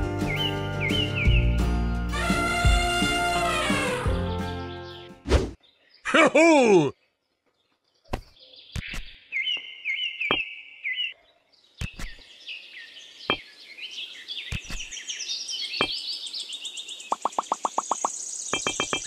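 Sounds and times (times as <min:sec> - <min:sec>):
small birds chirping: 0:00.0 - 0:01.6, 0:04.5 - 0:06.2, 0:06.8 - 0:19.0.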